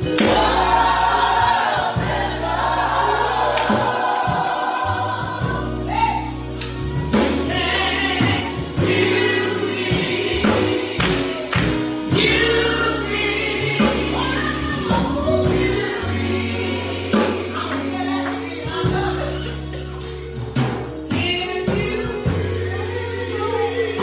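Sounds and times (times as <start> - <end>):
gospel choir singing: 0.0 - 24.0
sustained bass notes: 0.0 - 24.0.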